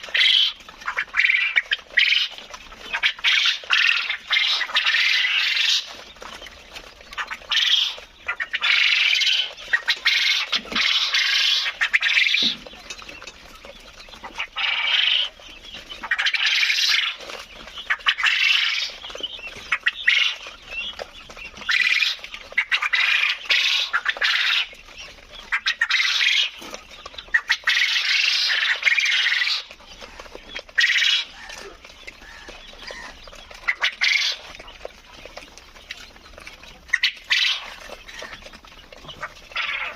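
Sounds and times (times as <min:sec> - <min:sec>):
quail calling harshly: 0:00.0 - 0:12.8, 0:13.6 - 0:35.8, 0:36.7 - 0:39.9.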